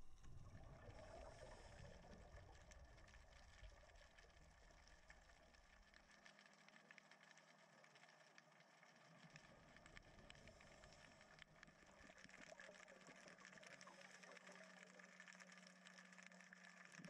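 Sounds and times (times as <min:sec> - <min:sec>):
faint clicks: 0:02.0 - 0:17.0.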